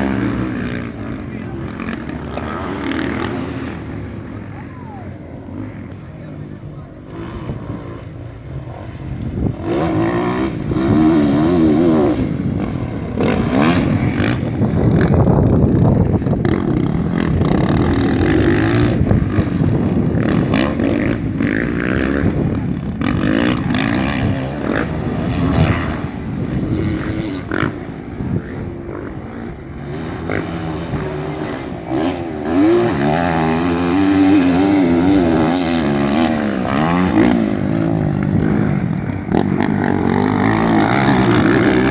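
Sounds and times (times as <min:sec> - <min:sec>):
racing motorcycles revving past: 0:00.0 - 0:41.9.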